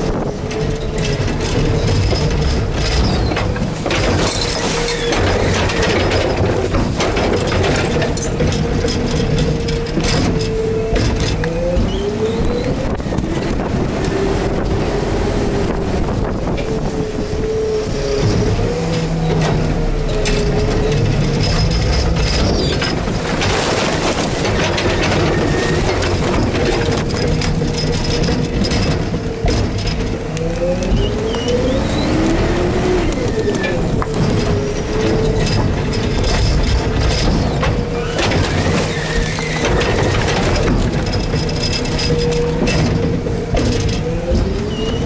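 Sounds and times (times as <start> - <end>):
clicks and rattles: 0.0 - 13.7, 18.8 - 31.6, 32.2 - 45.0
garbage truck engine rumble: 0.0 - 45.0.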